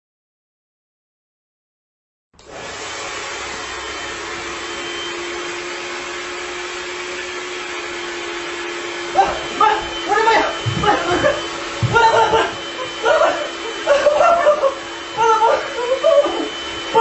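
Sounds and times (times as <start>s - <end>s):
hair dryer blowing: 2.4s - 17.0s.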